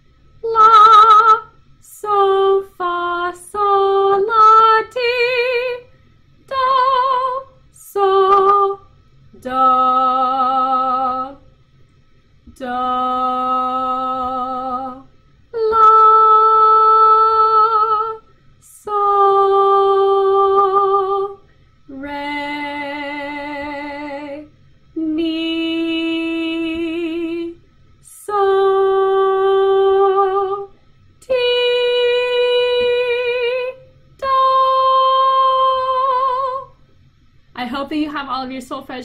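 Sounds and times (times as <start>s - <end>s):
woman singing solfege: 0.4s - 5.9s, 6.5s - 11.5s, 12.5s - 36.8s.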